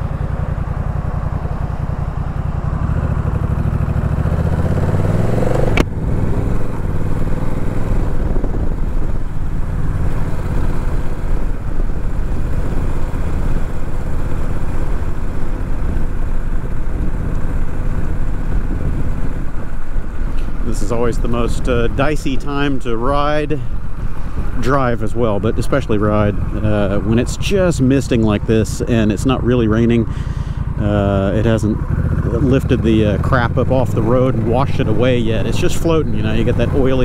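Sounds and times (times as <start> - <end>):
motorcycle engine accelerating: 0.0 - 37.0
road and wind noise: 0.0 - 37.0.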